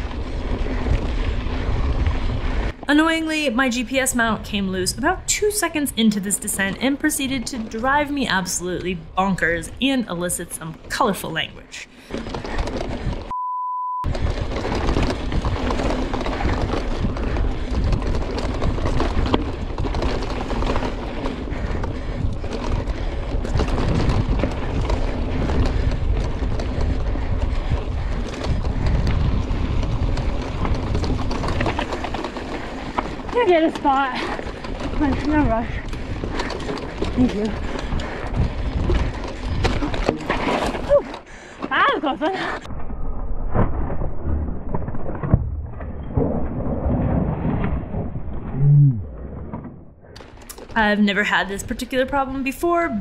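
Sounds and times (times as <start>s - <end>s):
bike clattering and rattling: 0.0s - 9.7s, 11.9s - 13.3s, 14.1s - 42.9s, 49.5s - 53.0s
wind buffeting microphone: 0.0s - 10.4s, 14.1s - 53.0s
tyres rumbling on dirt trail: 0.0s - 13.3s, 14.0s - 53.0s.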